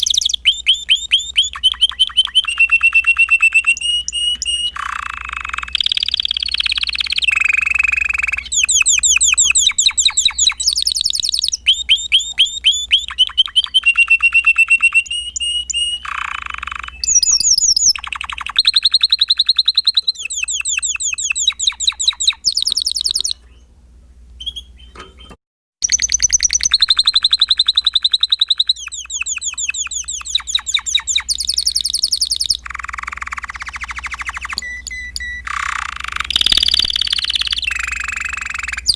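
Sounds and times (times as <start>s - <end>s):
canary singing trills: 0.0s - 23.7s, 24.4s - 38.9s.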